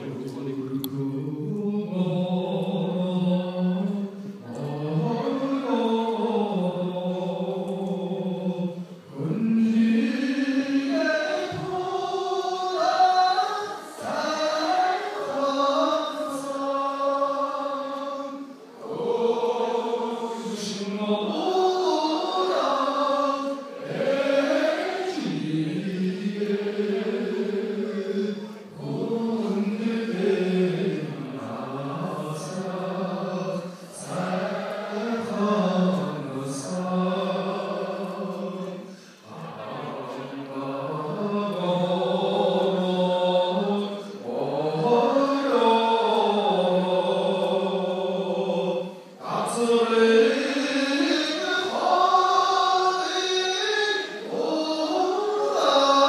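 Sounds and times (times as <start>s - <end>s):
man singing into microphone: 0.0s - 18.5s, 19.2s - 23.7s, 24.3s - 56.0s.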